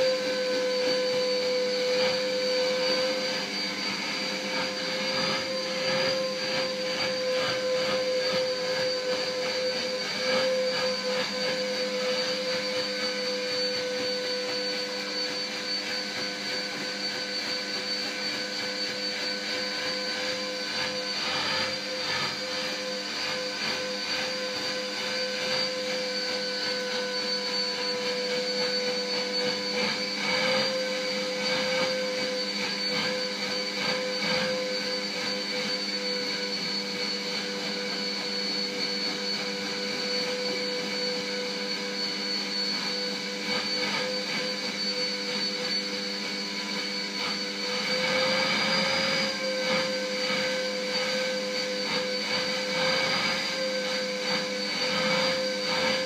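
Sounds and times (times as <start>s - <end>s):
vacuum cleaner whining: 0.0s - 56.0s.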